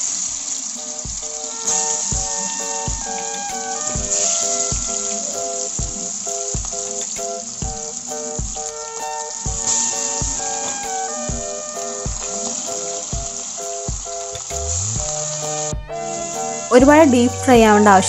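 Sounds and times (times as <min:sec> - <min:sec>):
background music with steady beat: 0:00.0 - 0:18.0
fish sizzling in hot oil: 0:00.0 - 0:18.0.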